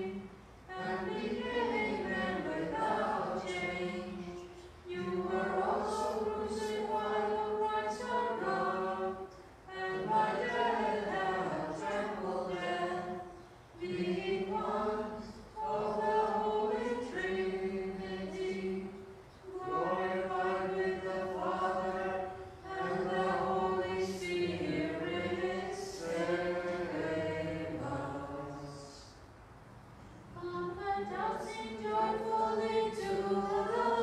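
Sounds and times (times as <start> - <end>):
unaccompanied voices chanting: 0.0 - 29.2, 30.4 - 34.0.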